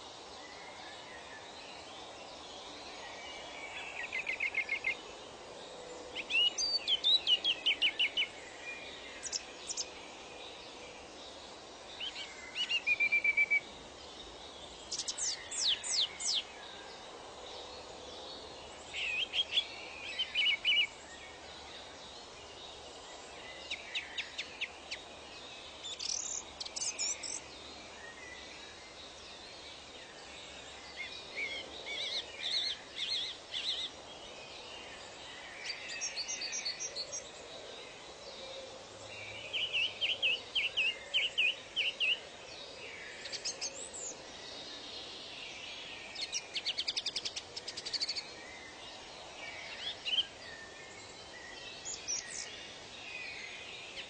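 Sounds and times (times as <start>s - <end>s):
faint ambient hiss: 0.0s - 54.0s
songbirds singing trills: 0.0s - 54.0s.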